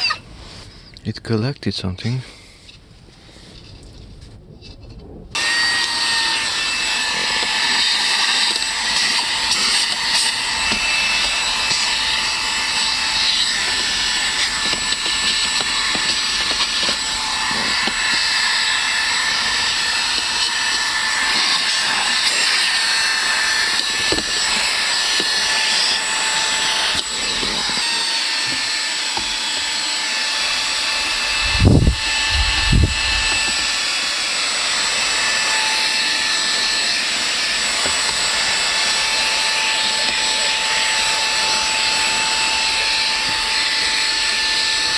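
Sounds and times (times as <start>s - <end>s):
vacuum cleaner motor whining: 5.4s - 44.9s.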